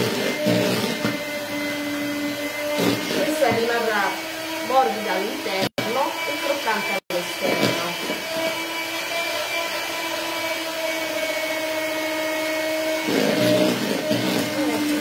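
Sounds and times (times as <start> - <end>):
electric mixer running: 0.0 - 15.0.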